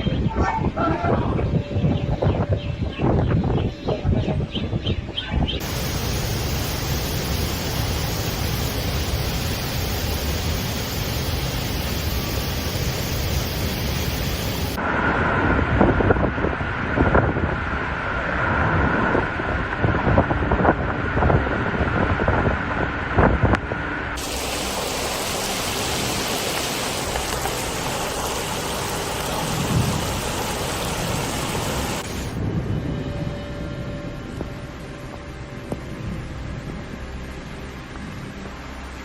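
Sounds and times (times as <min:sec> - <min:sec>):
storm wind rushing: 0:00.0 - 0:34.5
wind gusts thumping microphone: 0:00.0 - 0:34.6.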